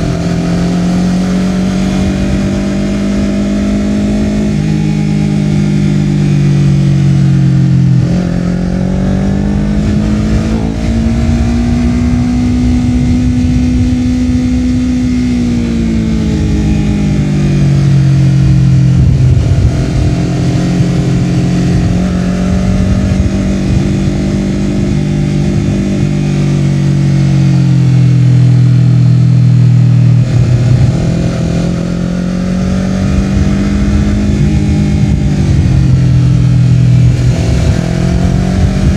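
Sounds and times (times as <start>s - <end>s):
motorcycle engine while riding: 0.0s - 38.9s
road and wind rumble: 0.0s - 38.9s.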